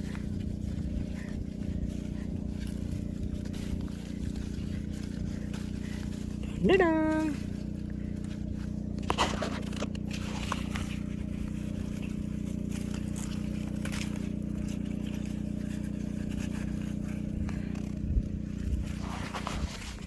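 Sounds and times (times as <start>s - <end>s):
bean plants snapping and rustling: 0.0s - 20.0s
low machine hum: 0.0s - 20.0s.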